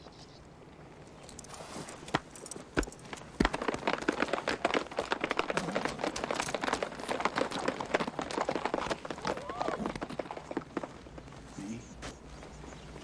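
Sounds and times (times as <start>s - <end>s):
horse hooves clattering: 0.8s - 13.0s.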